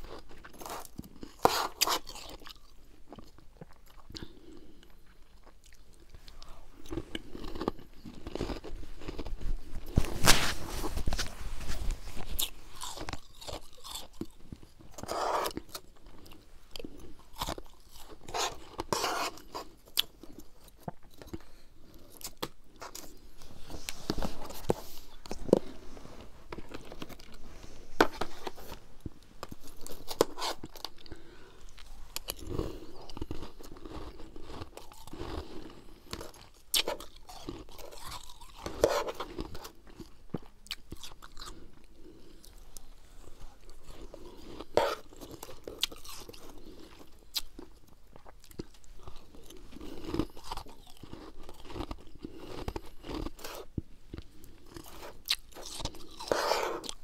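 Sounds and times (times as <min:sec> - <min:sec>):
chewing crunchy ice: 0:00.0 - 0:09.9, 0:12.2 - 0:23.2, 0:29.4 - 0:42.9, 0:43.6 - 0:57.0.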